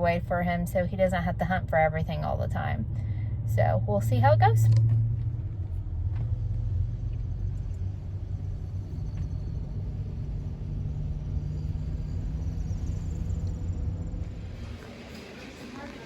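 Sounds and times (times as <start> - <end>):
road and engine noise in cabin: 0.0 - 16.0.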